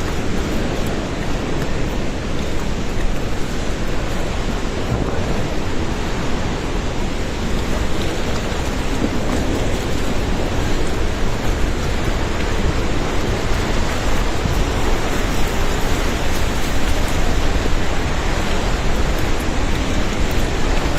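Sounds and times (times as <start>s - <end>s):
river rushing in flood: 0.0s - 20.9s.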